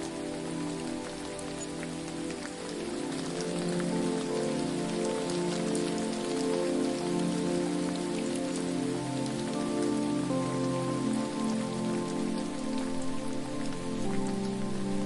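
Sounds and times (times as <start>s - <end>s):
falling water hiss: 0.0s - 15.0s
soft ambient pad tones: 0.0s - 15.0s.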